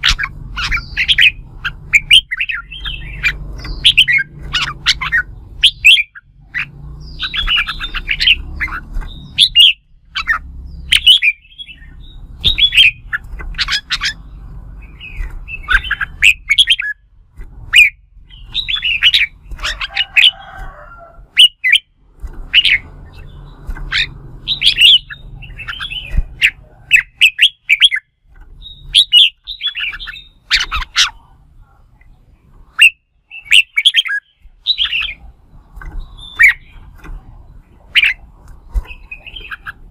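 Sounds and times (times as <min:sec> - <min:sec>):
bulbul chattering song: 0:00.0 - 0:20.6, 0:21.2 - 0:39.9.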